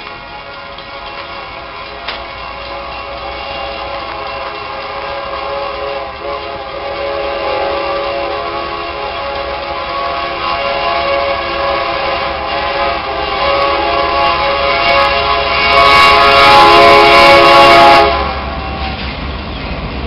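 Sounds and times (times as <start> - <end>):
locomotive air horn: 0.2 - 19.2.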